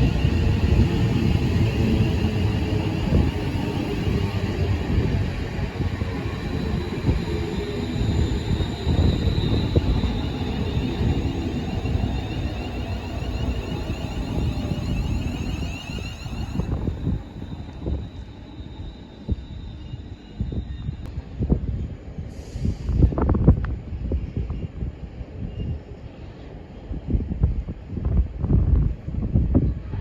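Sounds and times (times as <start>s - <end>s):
train rolling past: 0.0s - 27.0s.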